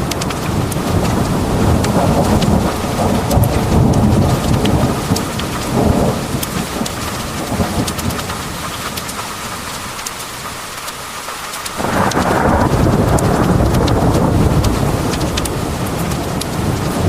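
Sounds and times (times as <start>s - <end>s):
rolling thunder: 0.0s - 9.0s, 11.8s - 17.0s
heavy rain pouring: 0.0s - 17.0s.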